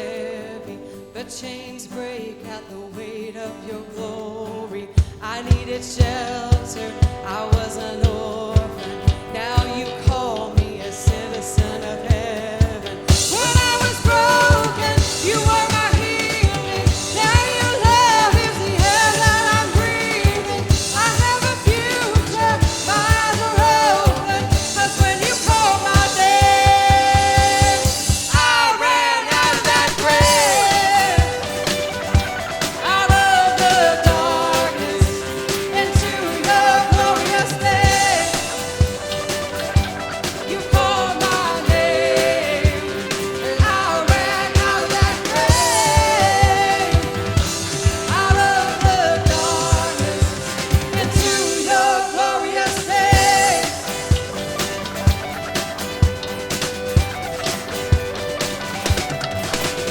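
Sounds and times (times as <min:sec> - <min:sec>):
live worship band music: 0:00.0 - 0:59.9
steady drum beat: 0:05.0 - 0:59.9.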